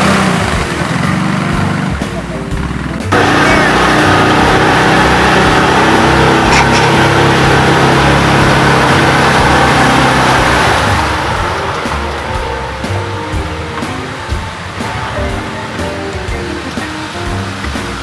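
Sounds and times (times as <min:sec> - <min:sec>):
off-road vehicle engine under load: 0:00.0 - 0:18.0
rushing water and mud: 0:00.0 - 0:18.0.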